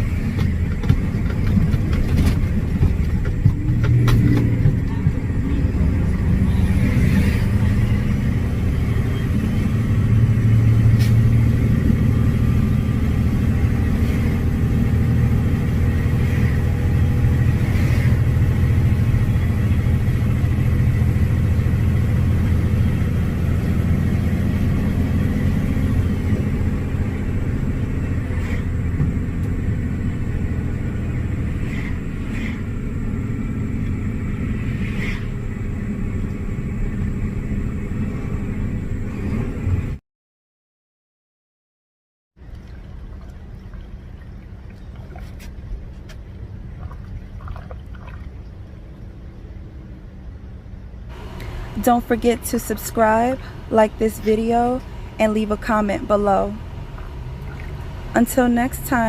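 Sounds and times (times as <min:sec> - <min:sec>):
truck engine and road rumble: 0:00.0 - 0:40.0, 0:42.4 - 0:59.0.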